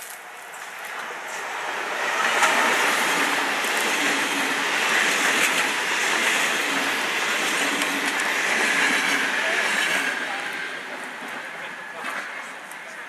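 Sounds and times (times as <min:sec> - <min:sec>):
locomotive moving slowly: 0:00.0 - 0:13.0.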